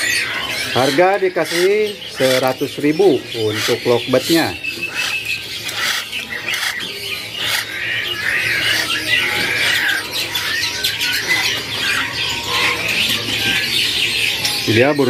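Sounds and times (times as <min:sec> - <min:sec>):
parrot chicks squawking: 0:00.0 - 0:15.0.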